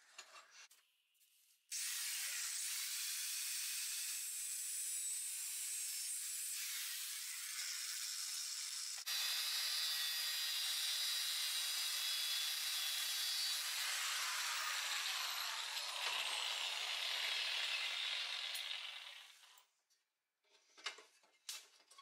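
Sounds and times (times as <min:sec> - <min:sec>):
angle grinder on steel: 0:01.8 - 0:19.6.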